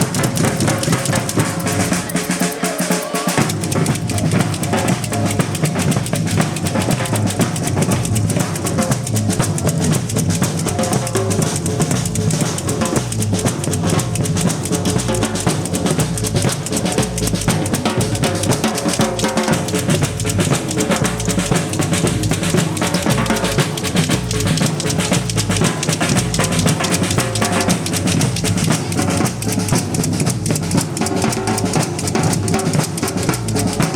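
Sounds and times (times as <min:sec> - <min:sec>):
snare drums playing rhythm: 0:00.0 - 0:33.9
bass drums pounding: 0:03.4 - 0:33.9.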